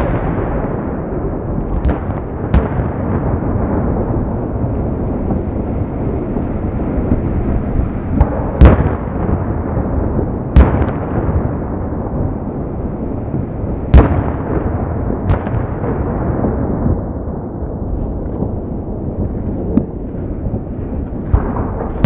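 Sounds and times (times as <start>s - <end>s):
constant low noise: 0.0s - 22.0s.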